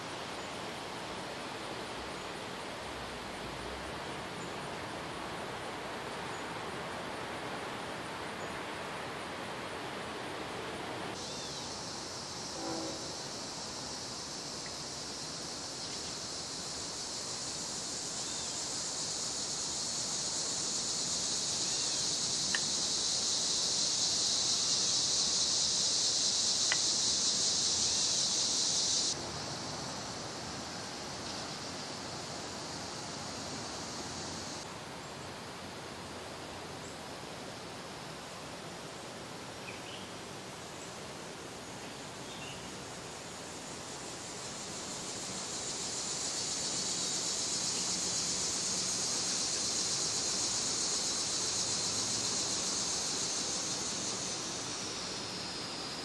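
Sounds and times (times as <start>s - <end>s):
insect chorus droning: 0.0s - 56.0s.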